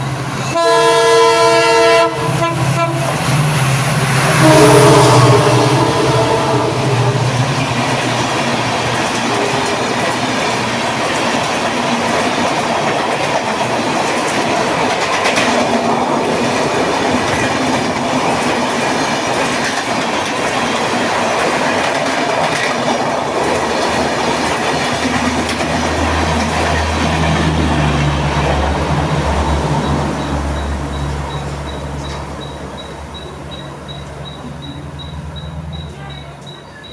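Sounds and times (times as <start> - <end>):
train coaches clattering past: 0.0 - 36.9.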